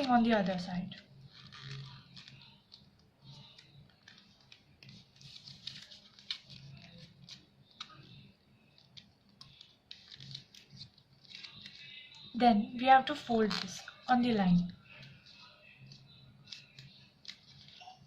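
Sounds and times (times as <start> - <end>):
paper rustling and crinkling: 0.0 - 12.3, 13.2 - 18.0
small clicks of paper creases: 0.9 - 12.3, 14.8 - 18.0.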